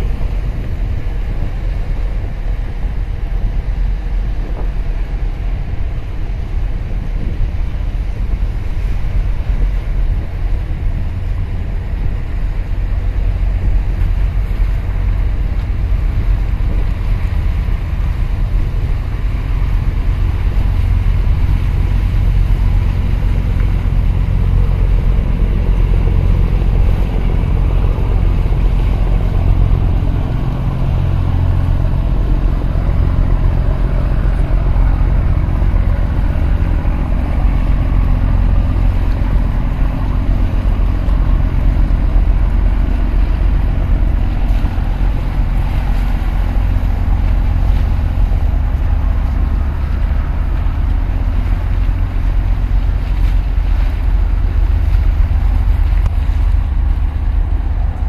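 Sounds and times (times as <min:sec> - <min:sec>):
low rumble of ship engines: 0:00.0 - 0:58.0
wind buffeting microphone: 0:00.0 - 0:58.0.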